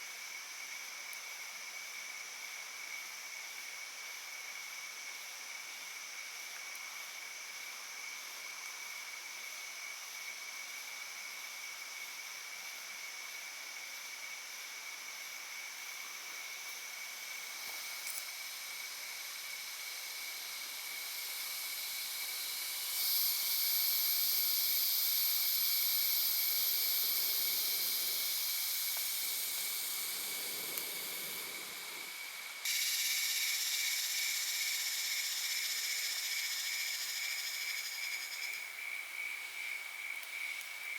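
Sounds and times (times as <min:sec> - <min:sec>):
high insect call: 0:00.0 - 0:40.9
insects buzzing and shrilling: 0:00.0 - 0:40.9
pulsing insect call: 0:07.3 - 0:40.9.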